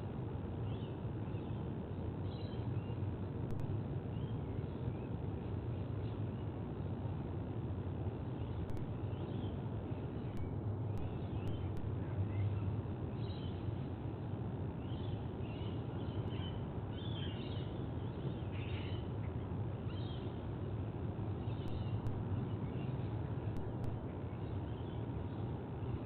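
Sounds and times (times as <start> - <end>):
steady low rumble: 0.0 - 17.0, 19.0 - 26.0.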